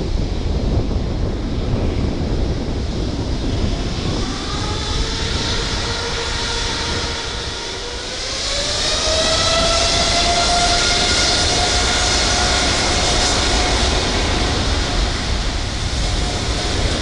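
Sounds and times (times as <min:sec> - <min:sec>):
jet engines spooling up: 0:00.0 - 0:17.0.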